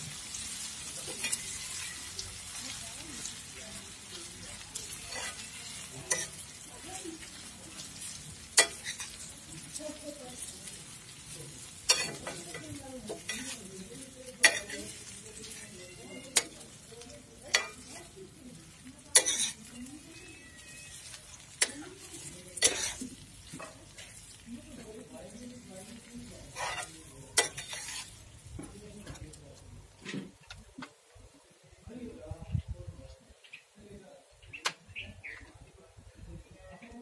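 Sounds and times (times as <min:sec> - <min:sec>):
food sizzling in hot oil: 0:00.0 - 0:31.1.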